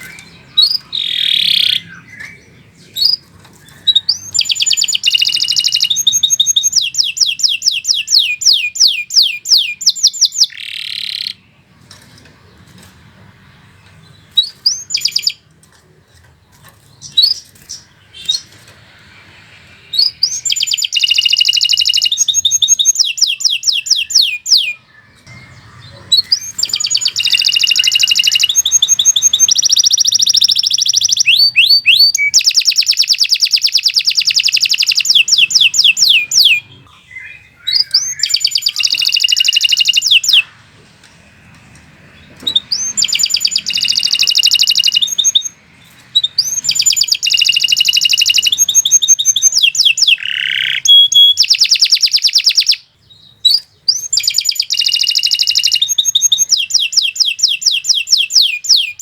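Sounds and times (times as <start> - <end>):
canary singing trills: 0.0 - 15.5, 16.5 - 40.7, 42.0 - 59.0.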